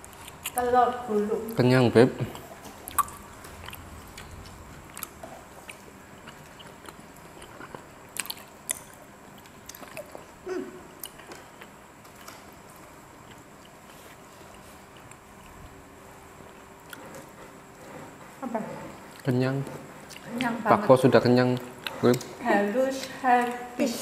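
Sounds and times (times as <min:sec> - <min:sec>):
people chewing and biting: 0:00.0 - 0:00.6, 0:02.2 - 0:20.5, 0:21.5 - 0:22.4.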